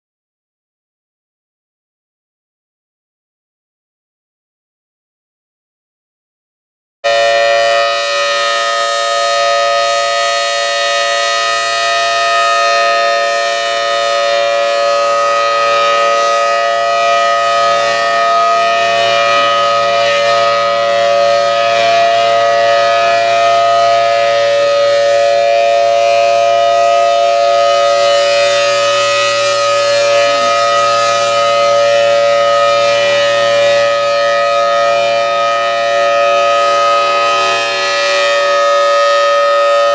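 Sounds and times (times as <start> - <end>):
warning siren steady chord: 7.0 - 39.9.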